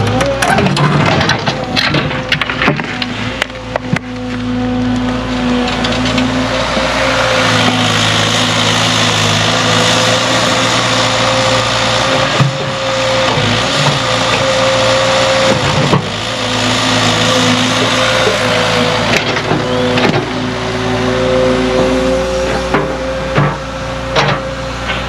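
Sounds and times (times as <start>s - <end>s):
diesel engine under load: 0.0s - 25.0s
hydraulic whine: 0.0s - 25.0s.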